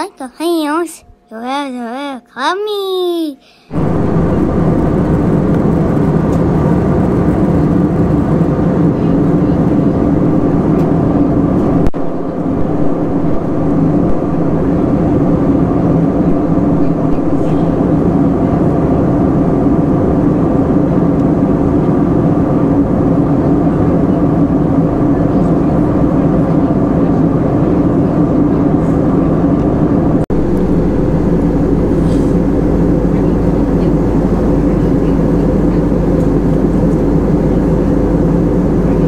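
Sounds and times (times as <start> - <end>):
jet engine cabin drone: 3.4 - 39.0
deep hum: 3.5 - 39.0.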